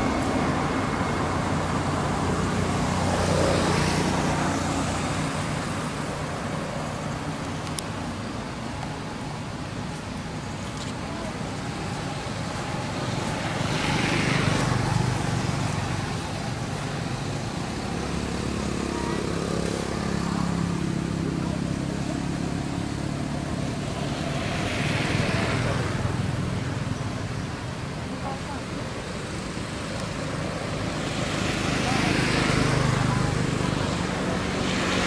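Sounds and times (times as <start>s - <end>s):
traffic rumble: 0.0s - 35.0s
vehicles passing: 0.0s - 35.0s.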